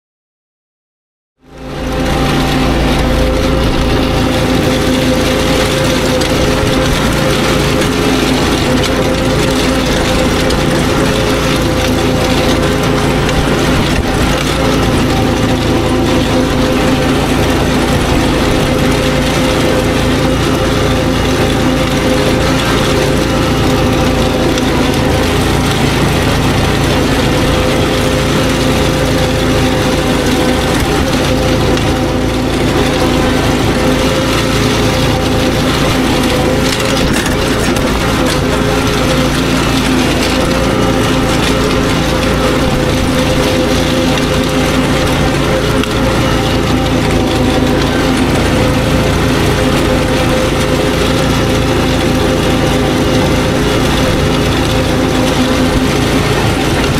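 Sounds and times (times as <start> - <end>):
lawn machine engine humming: 1.4 - 56.9
dethatcher raking grass: 1.5 - 56.9.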